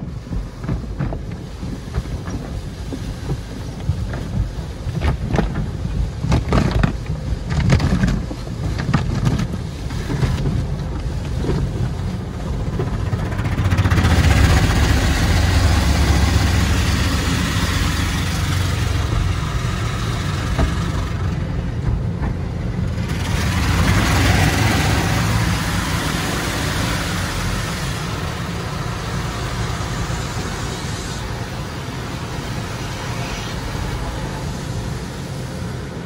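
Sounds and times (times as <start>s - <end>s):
deep rumble: 0.0s - 31.2s
water spraying onto a car: 0.0s - 36.0s.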